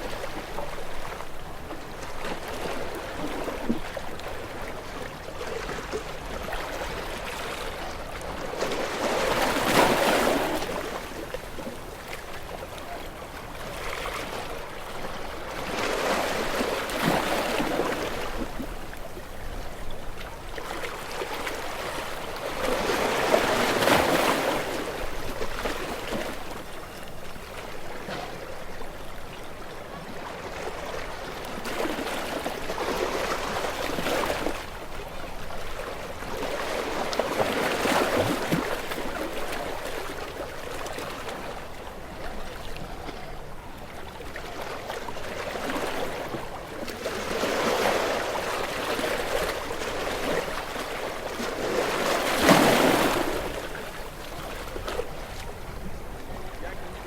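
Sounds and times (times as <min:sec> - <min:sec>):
sea waves breaking against rocks: 0:00.0 - 0:57.0.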